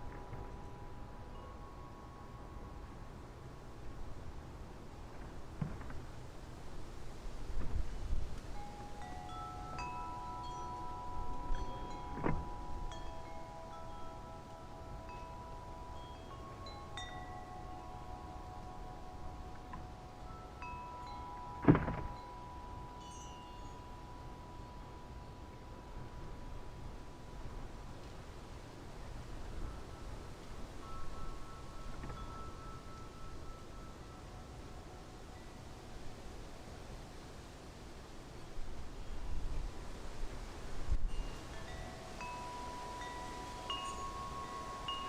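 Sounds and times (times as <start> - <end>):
wind chimes ringing: 0.0 - 4.3, 8.4 - 39.6, 41.1 - 45.0.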